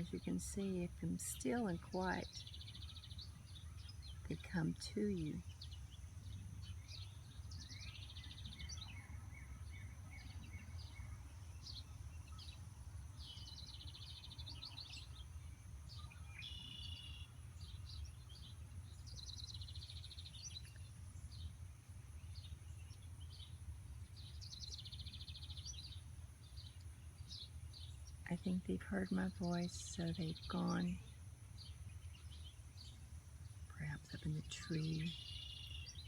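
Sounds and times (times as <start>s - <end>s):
songbirds chirping: 0.0s - 36.0s.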